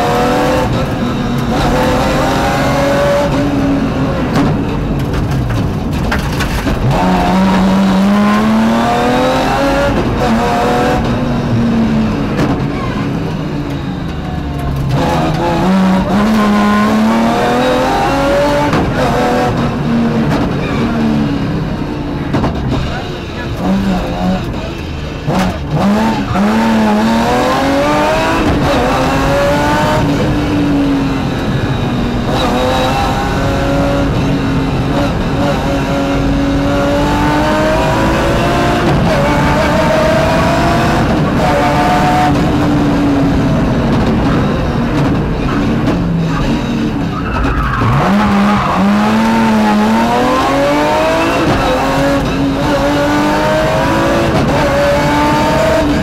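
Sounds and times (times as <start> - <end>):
rally car engine accelerating: 0.0 - 56.0
road and drivetrain noise: 0.0 - 56.0.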